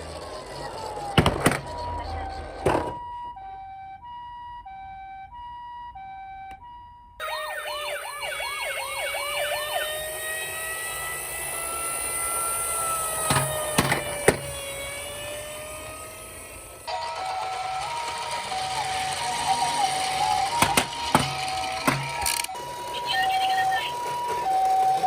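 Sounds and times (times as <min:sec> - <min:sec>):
hissy yelping siren: 0:00.0 - 0:25.0
two-tone ambulance siren: 0:00.0 - 0:25.0.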